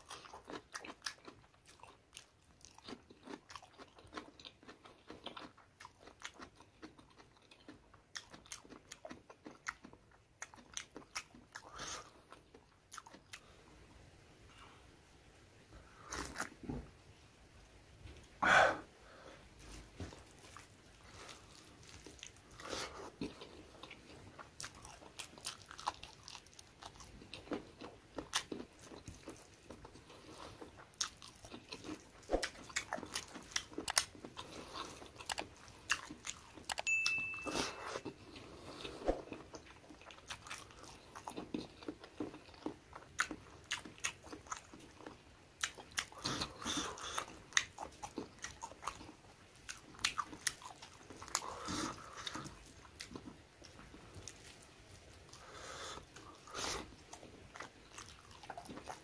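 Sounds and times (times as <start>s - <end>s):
chewing with wet mouth clicks: 0.0s - 13.5s, 20.3s - 59.0s.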